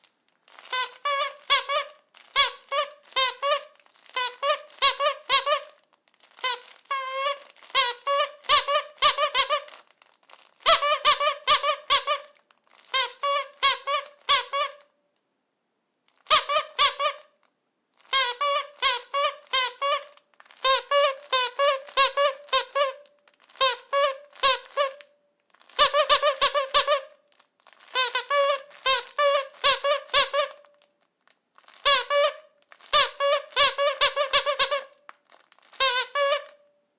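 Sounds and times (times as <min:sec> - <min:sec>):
squeaky dog toy squeaks: 0:00.5 - 0:14.9, 0:16.2 - 0:17.4, 0:18.0 - 0:30.8, 0:31.6 - 0:36.6.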